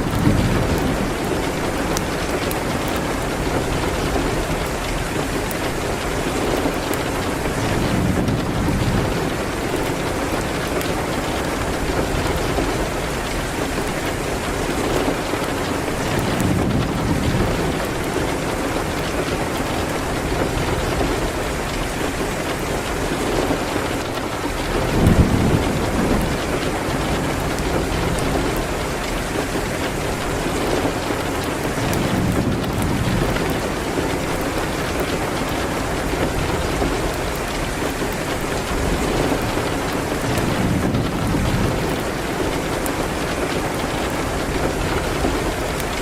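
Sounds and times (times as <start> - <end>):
rain beating on a window: 0.0 - 46.0
thunder rumbling: 0.0 - 46.0
wood fire crackling: 0.0 - 46.0.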